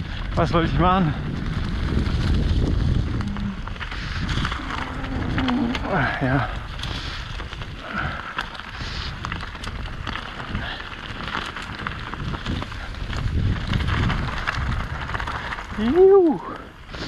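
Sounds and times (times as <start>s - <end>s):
bike tyres crunching over stones: 0.0s - 17.0s
wind buffeting microphone: 0.0s - 17.0s.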